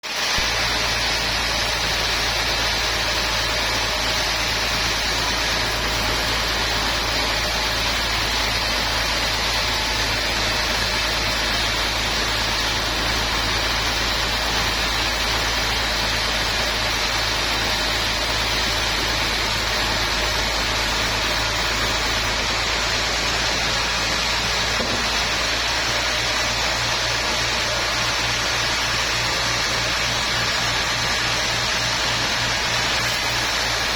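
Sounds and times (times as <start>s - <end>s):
sawmill machinery humming and hissing: 0.0s - 33.9s.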